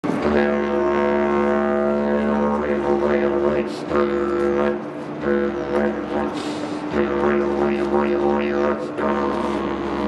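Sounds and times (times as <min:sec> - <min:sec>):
didgeridoo drone: 0:00.0 - 0:10.0.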